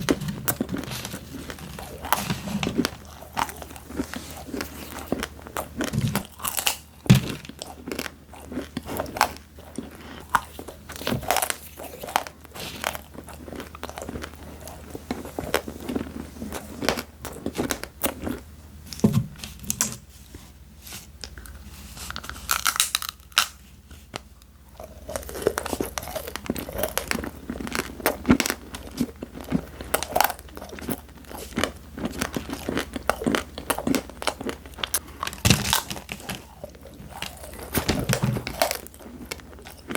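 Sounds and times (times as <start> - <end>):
chewing crispy snacks: 0.0 - 19.0, 21.2 - 39.9.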